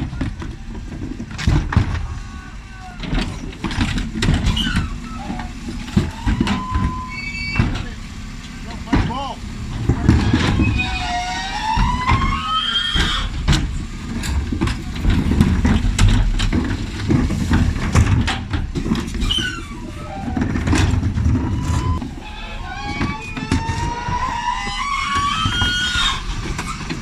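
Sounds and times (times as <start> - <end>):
rising hydraulic whine: 0.0 - 16.1, 16.8 - 27.0
bins banging and clattering: 0.0 - 27.0
truck engine low rumble: 0.0 - 27.0.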